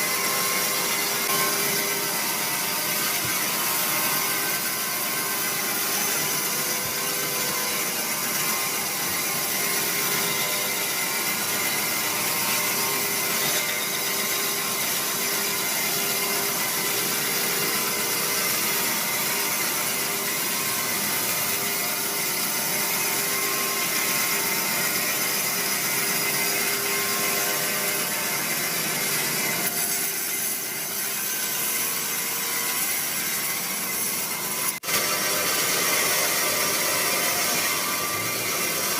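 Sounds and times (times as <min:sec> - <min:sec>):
saw cutting through log: 0:00.0 - 0:38.9.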